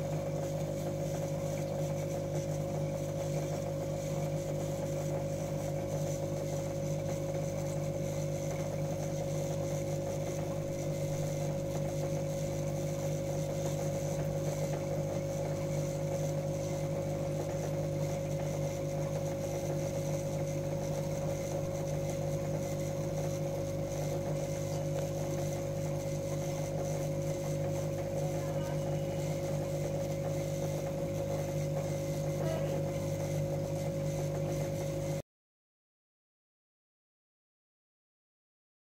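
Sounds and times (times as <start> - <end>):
aquarium air pump humming: 0.0 - 35.2.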